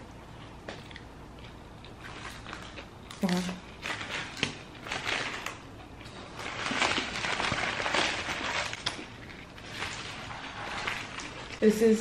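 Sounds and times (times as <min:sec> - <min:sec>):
crunchy chewing: 0:00.3 - 0:11.6
paper wrappers rustling: 0:02.0 - 0:12.0.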